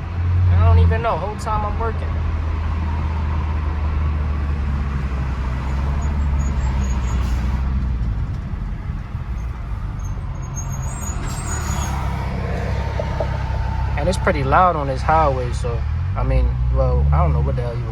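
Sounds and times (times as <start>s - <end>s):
car exhaust cruising: 0.0s - 17.9s
road noise: 0.0s - 17.9s.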